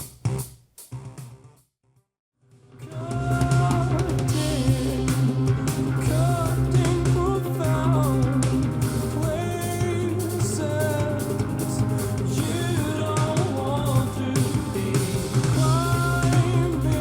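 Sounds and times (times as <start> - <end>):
rock music with singing: 2.8 - 17.0.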